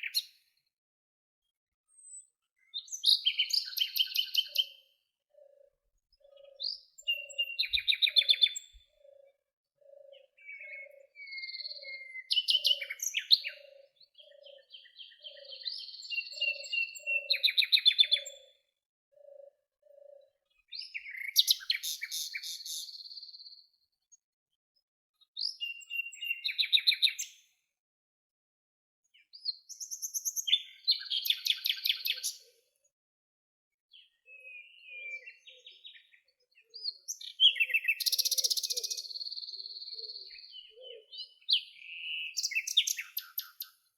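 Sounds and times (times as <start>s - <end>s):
songbirds singing with fast trills: 0.0s - 0.8s, 1.4s - 27.8s, 29.0s - 33.0s, 33.7s - 43.9s.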